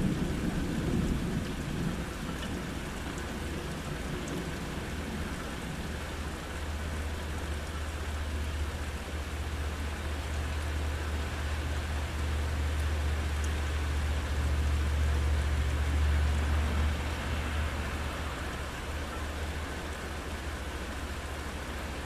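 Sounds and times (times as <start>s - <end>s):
low steady rumble: 0.0s - 22.0s
steady rain hissing: 0.0s - 22.0s.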